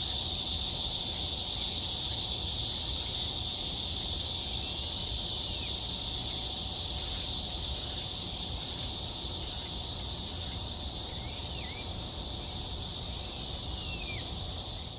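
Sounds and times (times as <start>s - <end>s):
cicadas shrilling: 0.0s - 14.9s.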